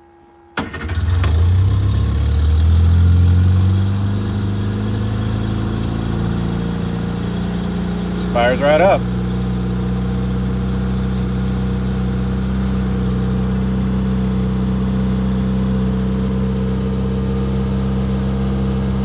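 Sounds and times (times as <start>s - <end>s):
car engine idling: 0.6s - 19.0s.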